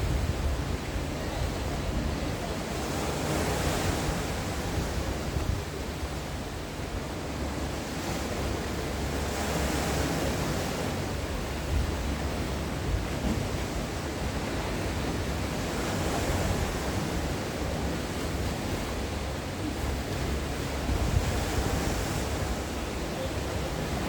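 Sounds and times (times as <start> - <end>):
sea waves breaking on shore: 0.0 - 24.0
wind rumble on microphone: 0.0 - 24.0.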